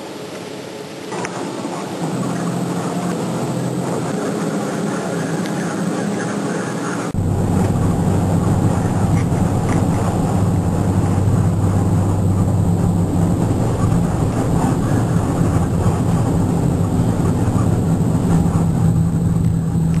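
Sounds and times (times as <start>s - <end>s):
engine drone inside vehicle: 0.0s - 20.0s
road noise rushing: 0.0s - 20.0s.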